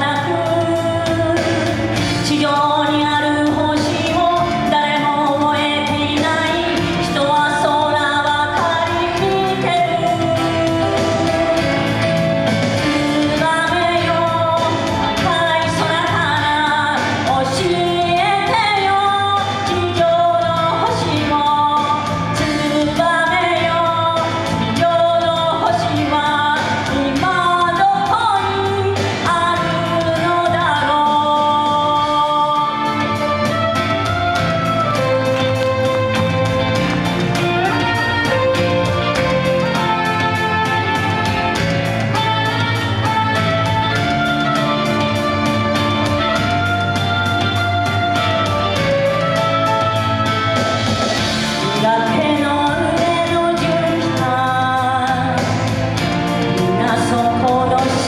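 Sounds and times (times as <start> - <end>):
instrumental accompaniment: 0.0 - 58.0
woman singing pop song: 0.0 - 58.0.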